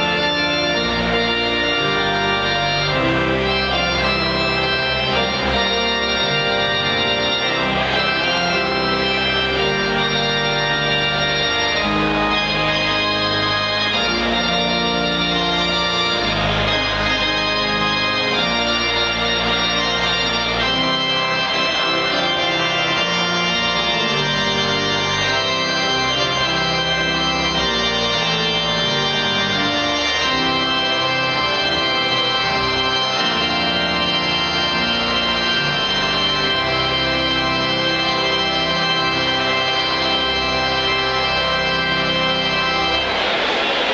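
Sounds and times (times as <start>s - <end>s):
pipe organ chords: 0.0s - 43.9s.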